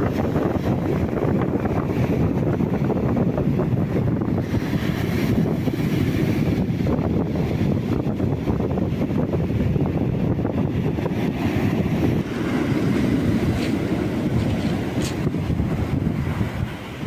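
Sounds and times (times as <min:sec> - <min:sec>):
stormy sea surf: 0:00.0 - 0:17.0
wind buffeting microphone: 0:00.0 - 0:17.0.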